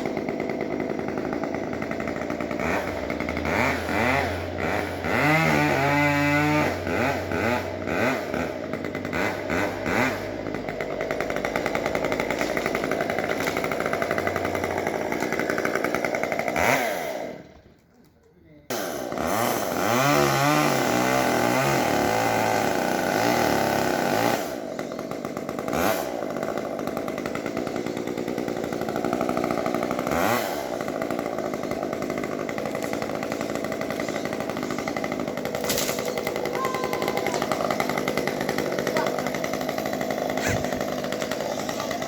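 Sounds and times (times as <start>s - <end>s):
chainsaw running at high revs: 0.0s - 17.6s, 18.6s - 42.0s.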